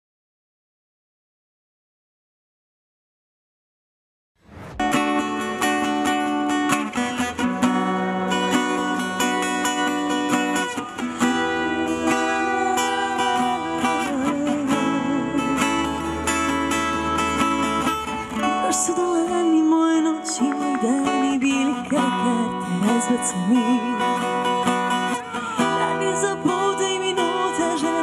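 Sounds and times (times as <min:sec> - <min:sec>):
strummed acoustic guitar chords: 0:04.6 - 0:28.0.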